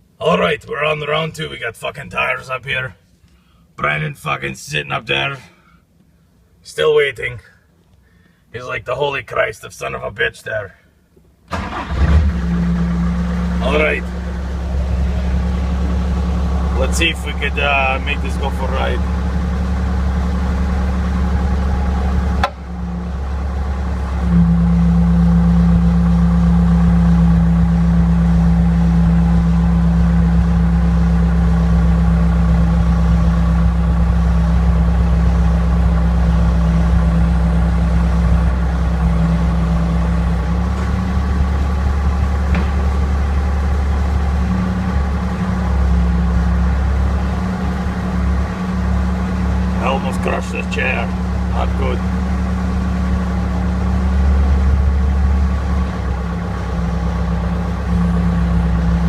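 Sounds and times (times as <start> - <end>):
loader engine running: 11.5 - 59.0.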